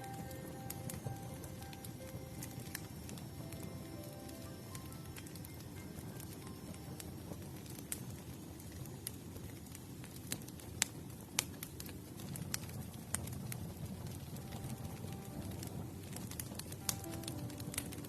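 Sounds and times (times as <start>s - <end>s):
fire crackling and popping: 0.0s - 18.0s
campfire rumble: 1.6s - 18.0s.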